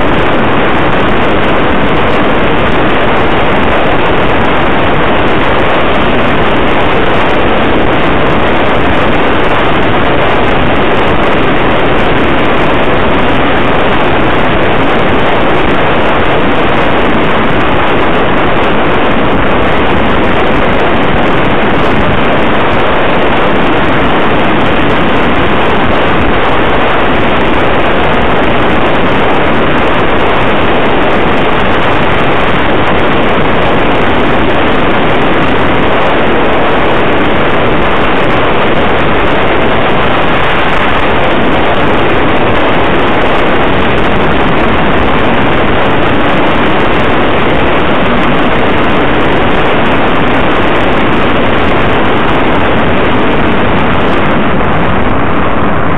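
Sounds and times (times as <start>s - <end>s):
road noise: 0.0s - 55.9s
wind buffeting microphone: 0.0s - 55.9s.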